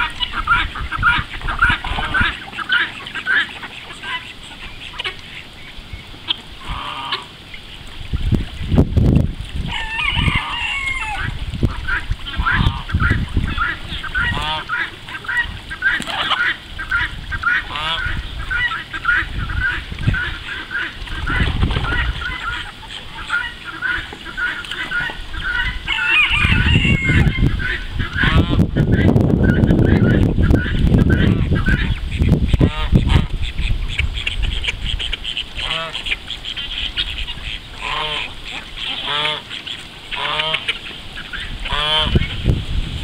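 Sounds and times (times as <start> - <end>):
ducks and geese honking and quacking: 0.0 - 8.8, 9.4 - 42.6.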